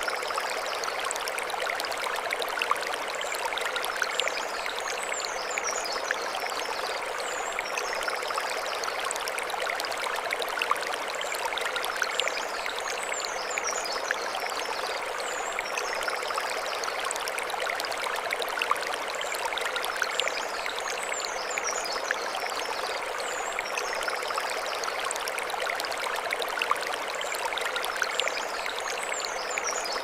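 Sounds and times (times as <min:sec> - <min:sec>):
stream flowing over stones: 0:00.0 - 0:30.0.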